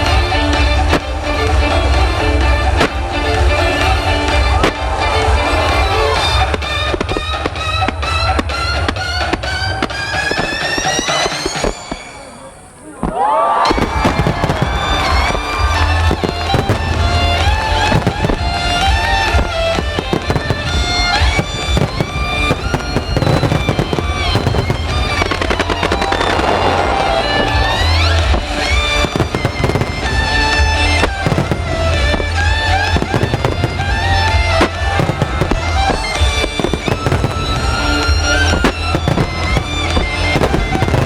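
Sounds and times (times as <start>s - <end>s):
music over loudspeakers: 0.0s - 11.8s, 13.8s - 41.0s
fireworks bursting and crackling: 0.0s - 41.0s.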